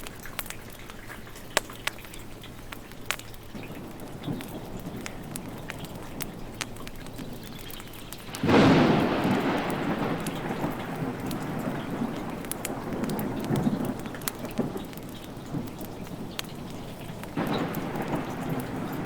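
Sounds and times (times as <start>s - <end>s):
steady rain: 0.0s - 19.0s
thunder clap and rumble: 3.6s - 19.0s.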